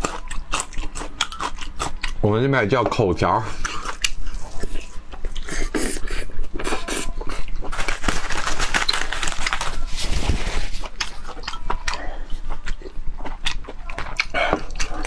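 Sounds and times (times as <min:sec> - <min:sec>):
close-miked chewing: 0:00.0 - 0:02.3, 0:03.4 - 0:15.0.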